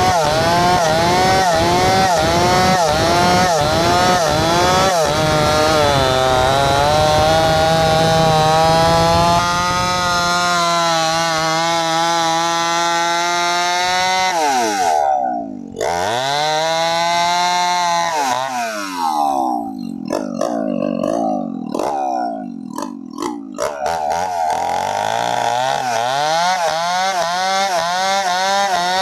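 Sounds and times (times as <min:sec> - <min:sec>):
chainsaw cutting through log: 0:00.0 - 0:29.0.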